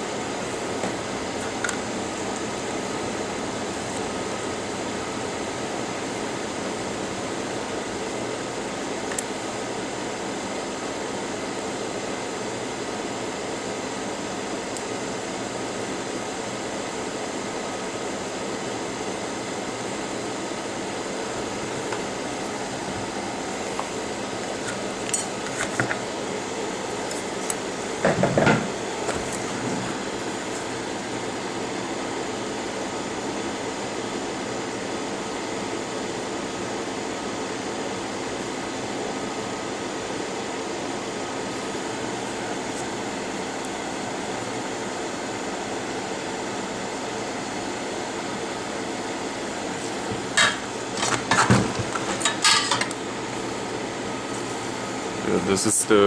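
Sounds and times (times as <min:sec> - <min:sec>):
fan-like background noise: 0:00.0 - 0:56.0.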